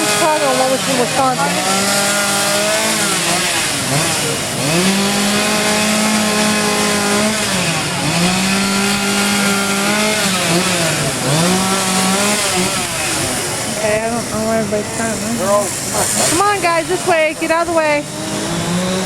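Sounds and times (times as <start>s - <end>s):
chainsaw revving: 0.0s - 19.0s.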